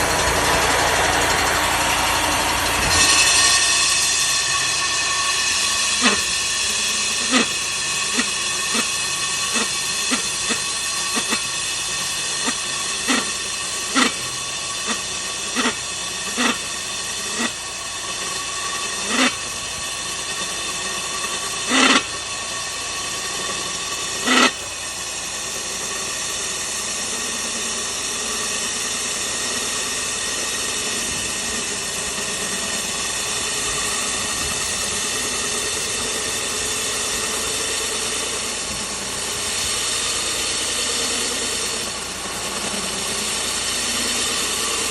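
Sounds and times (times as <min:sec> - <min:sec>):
core drill motor whining: 0:00.0 - 0:44.9.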